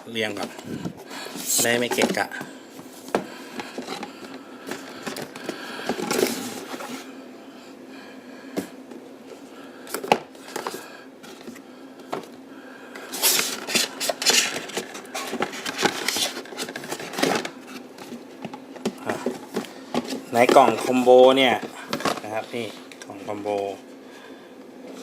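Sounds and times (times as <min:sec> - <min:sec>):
faint steady hum: 0:00.0 - 0:25.0
packaging rustling and scraping: 0:00.2 - 0:07.1, 0:09.9 - 0:12.4, 0:13.0 - 0:23.8.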